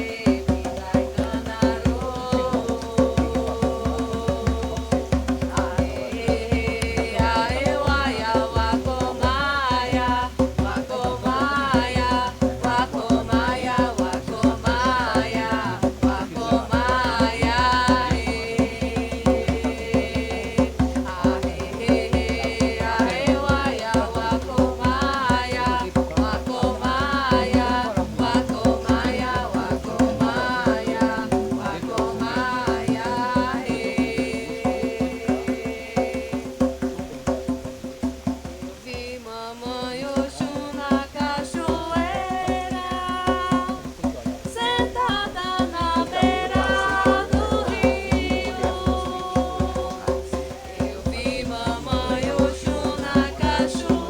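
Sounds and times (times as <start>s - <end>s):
hand drum pattern: 0.0s - 54.0s.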